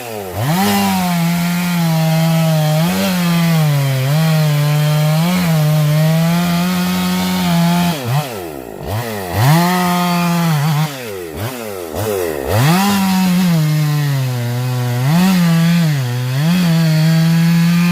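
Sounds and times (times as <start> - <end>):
chainsaw cutting wood: 0.0 - 17.9.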